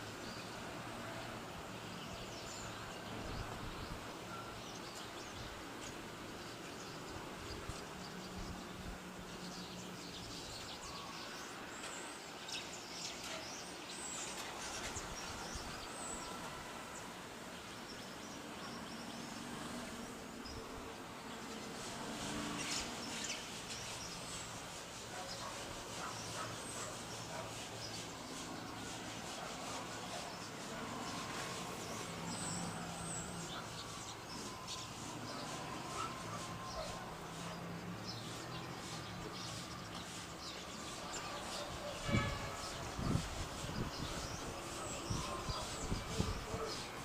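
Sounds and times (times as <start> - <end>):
background hiss: 0.0 - 47.0.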